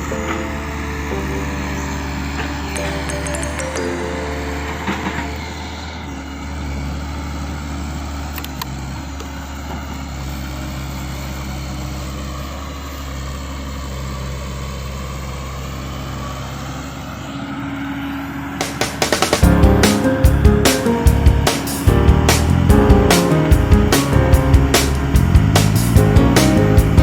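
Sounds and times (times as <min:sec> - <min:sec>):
vehicle engine running low: 0:05.2 - 0:27.0.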